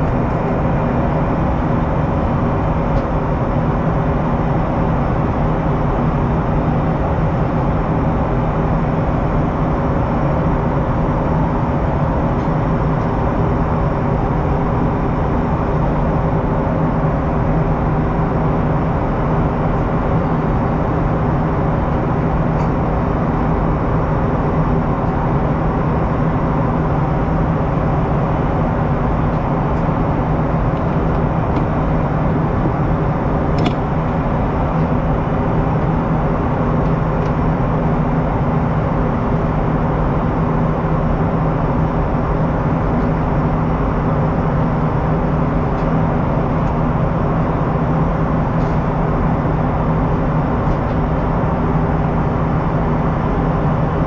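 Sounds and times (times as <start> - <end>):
constant rush of noise: 0.0 - 54.0
jet engine hum in cabin: 0.0 - 54.0.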